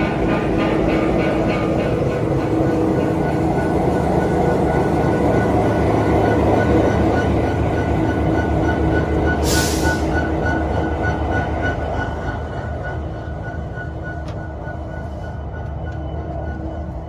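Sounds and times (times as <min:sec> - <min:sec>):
diesel locomotive engine running: 0:00.0 - 0:17.0.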